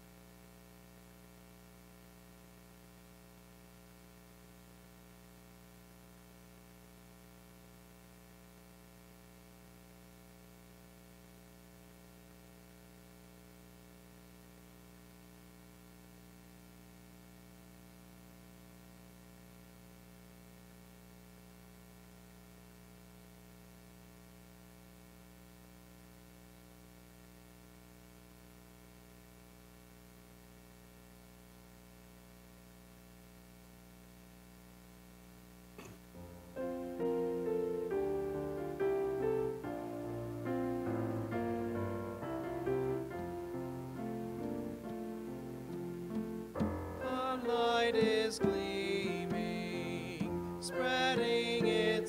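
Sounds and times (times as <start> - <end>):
faint electrical hum and hiss: 0.0 - 52.0.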